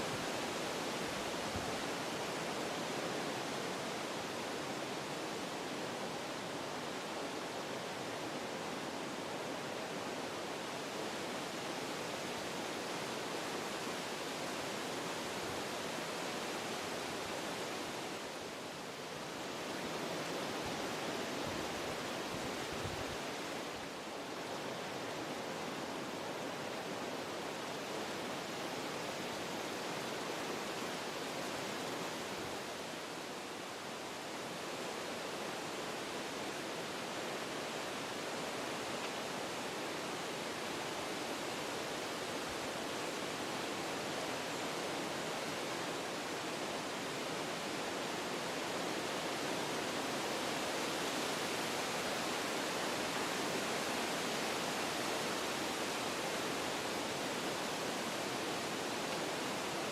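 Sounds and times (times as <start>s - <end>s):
wind through forest trees: 0.0s - 59.9s.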